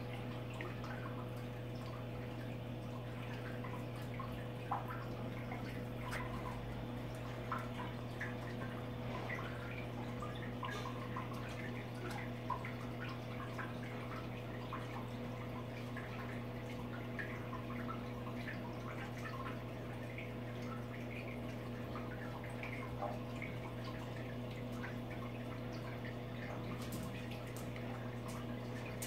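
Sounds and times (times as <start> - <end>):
pump motor hum: 0.0 - 29.0
water trickling and dripping: 0.0 - 29.0.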